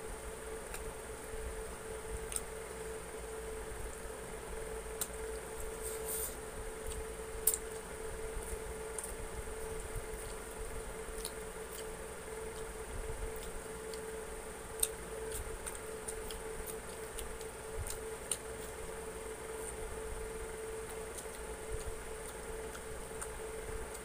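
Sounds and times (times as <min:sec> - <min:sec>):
steady hum: 0:00.0 - 0:24.0
people chewing food: 0:00.2 - 0:24.0.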